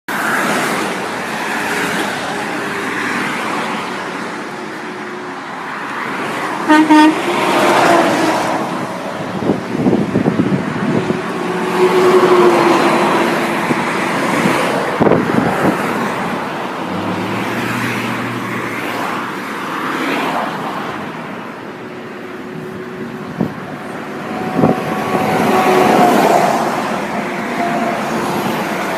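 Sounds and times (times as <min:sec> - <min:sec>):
vehicles driving past: 0:00.1 - 0:28.9.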